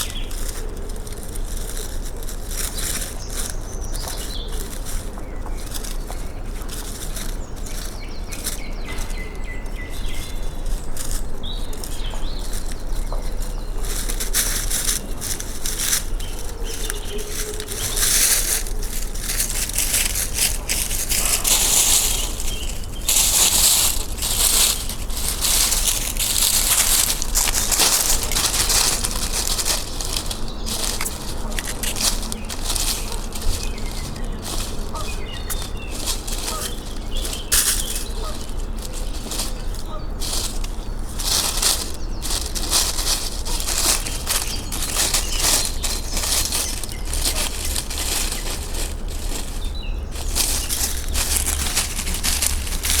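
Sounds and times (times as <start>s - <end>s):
crackling rustle: 0.0s - 53.0s
steady low rumble: 0.0s - 53.0s.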